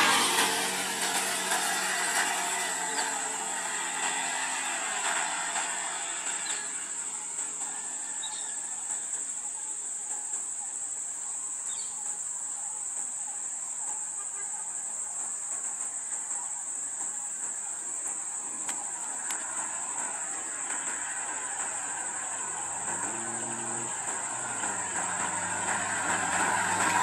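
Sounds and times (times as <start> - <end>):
car approaching: 0.0 - 14.1, 14.8 - 27.0
high-pitched insect chorus: 0.0 - 27.0.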